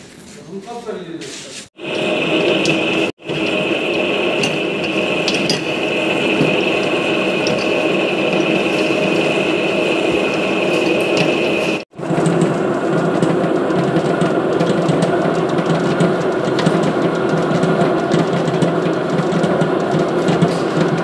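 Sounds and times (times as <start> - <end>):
commercial mixer running: 1.8 - 21.0.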